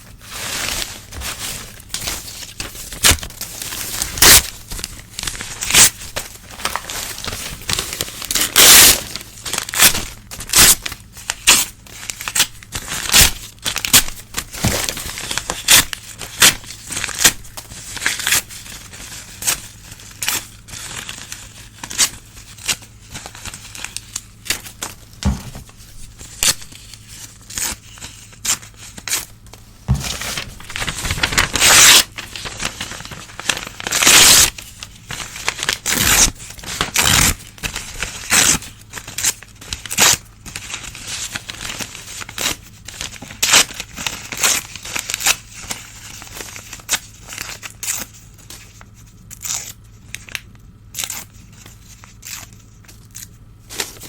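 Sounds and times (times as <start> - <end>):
paper crinkling: 0.0 - 50.4
newspaper tearing: 0.1 - 29.3, 29.9 - 48.2.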